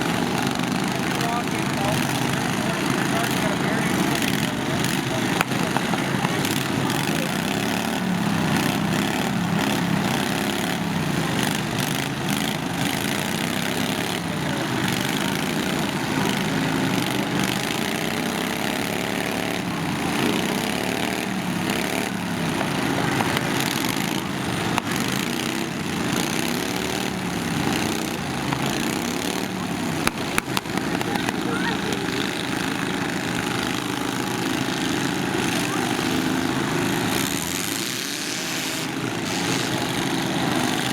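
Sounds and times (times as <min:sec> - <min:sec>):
lawn tractor engines revving: 0:00.0 - 0:40.9.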